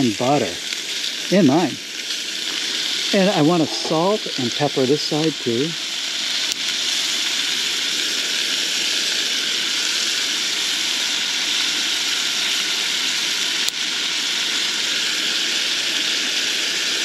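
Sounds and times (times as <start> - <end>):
burger patties sizzling in pan: 0.0 - 17.0.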